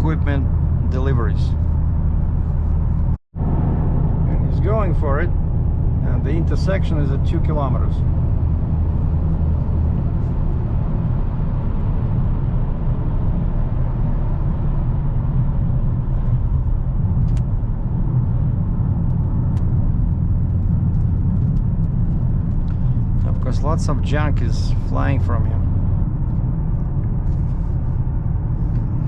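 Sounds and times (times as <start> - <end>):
car engine and tyre drone: 0.0 - 29.0.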